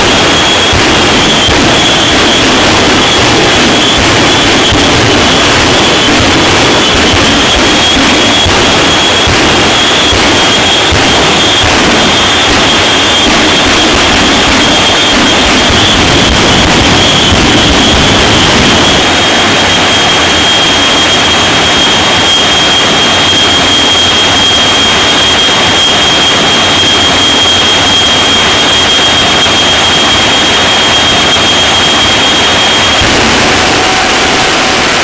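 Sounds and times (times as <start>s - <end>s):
high-pitched whine: 0.0s - 35.0s
jet engine roaring: 0.0s - 35.0s.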